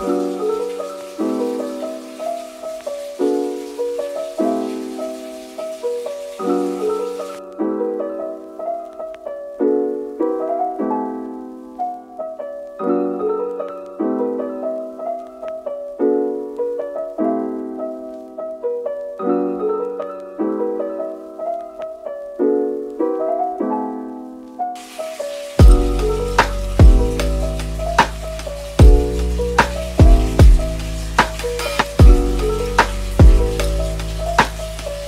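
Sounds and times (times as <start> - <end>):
gentle solo piano: 0.0 - 35.0.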